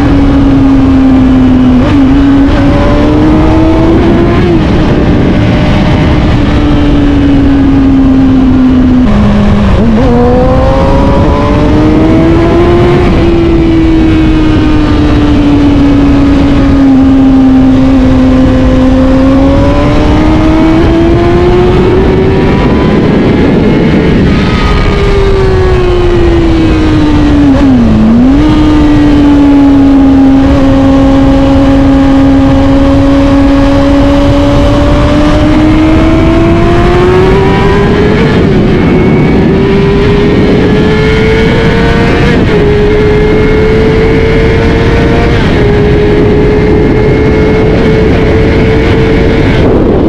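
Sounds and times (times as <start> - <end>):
motorcycle engine: 0.0 - 50.0
wind and road noise: 0.0 - 50.0.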